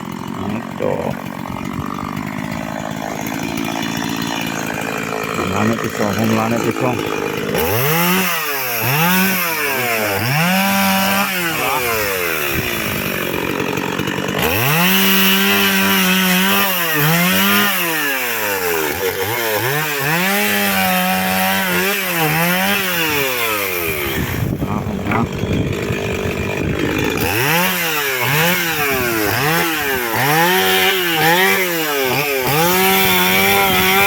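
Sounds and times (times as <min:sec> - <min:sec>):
chainsaw cutting logs: 0:00.0 - 0:34.0.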